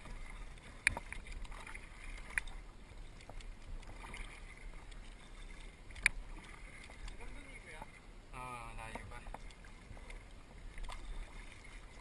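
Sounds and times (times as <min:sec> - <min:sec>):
kayak paddles swishing through water: 0:00.0 - 0:12.0.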